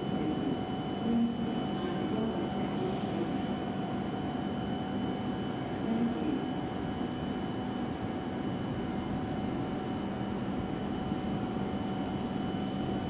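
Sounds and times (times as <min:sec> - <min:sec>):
steady whine: 0:00.0 - 0:13.0.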